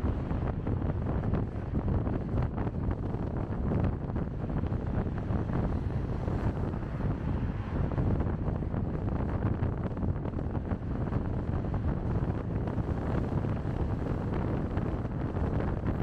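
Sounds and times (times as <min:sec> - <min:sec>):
car road noise rumble: 0:00.0 - 0:16.0
wind buffeting microphone: 0:00.0 - 0:16.0.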